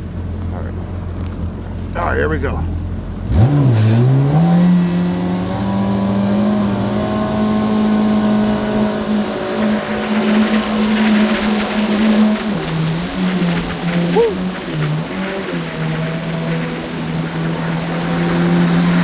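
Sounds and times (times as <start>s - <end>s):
jet ski engine at full throttle: 0.0s - 19.0s.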